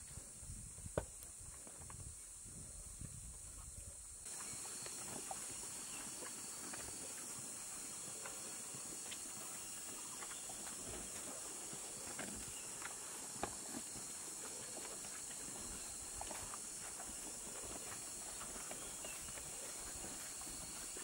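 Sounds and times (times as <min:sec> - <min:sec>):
insects hissing: 0:00.0 - 0:21.0.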